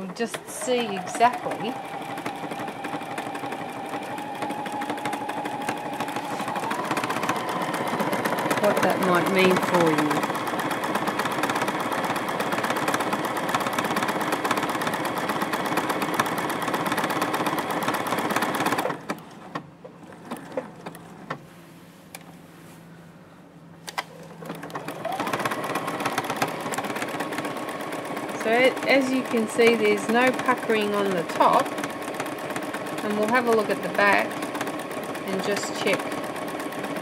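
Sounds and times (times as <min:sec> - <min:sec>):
sewing machine clicks: 0:00.0 - 0:21.4, 0:23.9 - 0:37.0
sewing machine stitching: 0:00.0 - 0:21.4, 0:24.3 - 0:37.0.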